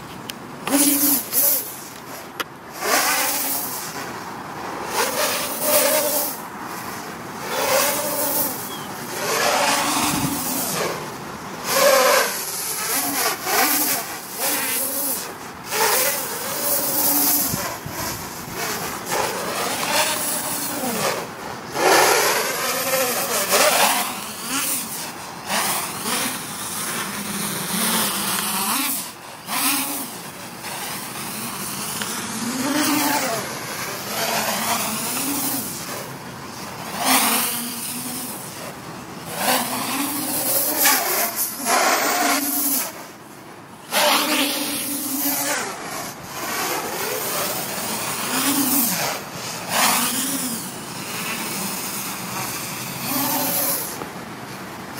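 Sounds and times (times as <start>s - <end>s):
drone propellers buzzing: 0.0s - 54.9s.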